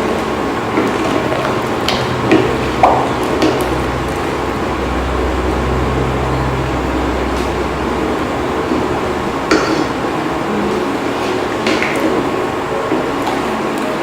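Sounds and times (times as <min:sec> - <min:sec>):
low hum: 0:00.0 - 0:14.0
pot of rice boiling: 0:00.0 - 0:14.0.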